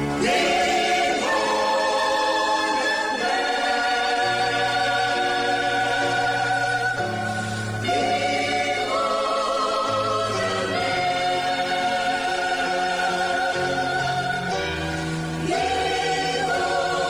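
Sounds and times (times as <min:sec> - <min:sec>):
gospel choir singing: 0:00.0 - 0:17.0.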